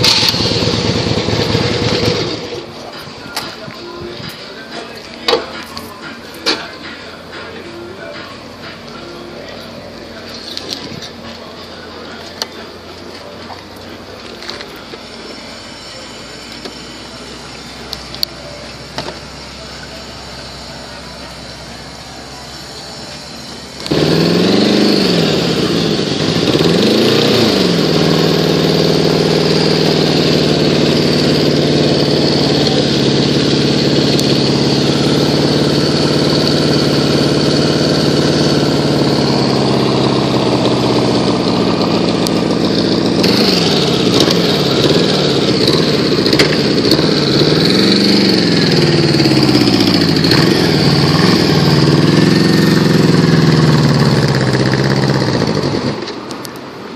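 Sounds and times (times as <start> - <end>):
motorcycle engine revving and idling: 0.0 - 56.9.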